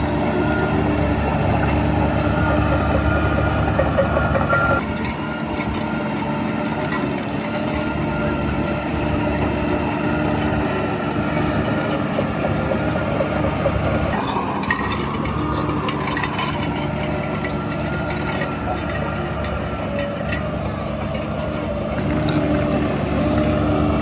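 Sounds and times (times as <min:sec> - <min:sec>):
heavy diesel engine running: 0:00.0 - 0:24.0
rising engine whine: 0:00.0 - 0:24.0.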